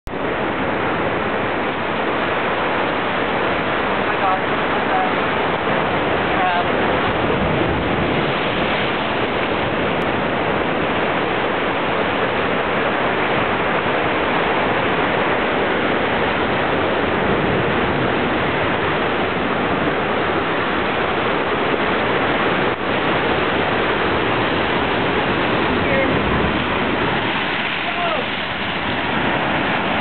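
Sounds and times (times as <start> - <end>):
ocean surf on rocky shore: 0.1 - 30.0.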